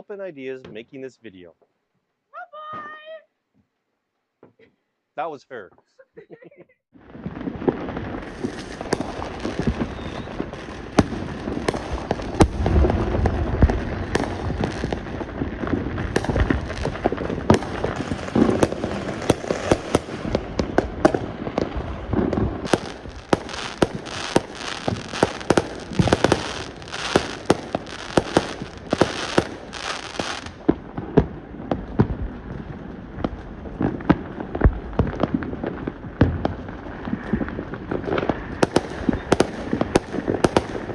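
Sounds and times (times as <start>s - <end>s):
fireworks bangs and booms: 0.1s - 1.5s, 6.9s - 40.9s
firecrackers crackling: 7.0s - 40.9s.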